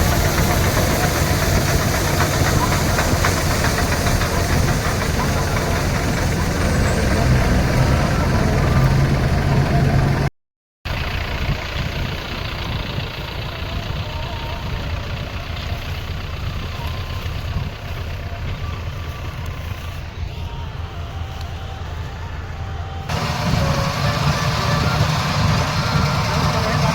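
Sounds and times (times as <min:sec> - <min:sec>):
heavy diesel farm machinery running: 0:00.0 - 0:10.3, 0:10.9 - 0:26.9.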